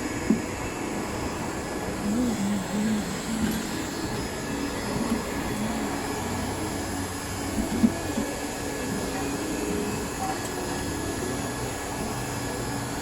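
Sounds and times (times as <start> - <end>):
blower whirring: 0.0 - 13.0.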